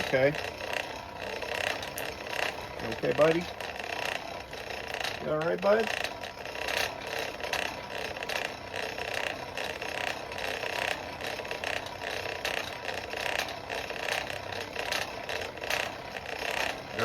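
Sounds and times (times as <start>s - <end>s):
forge blower rushing: 0.0s - 17.0s.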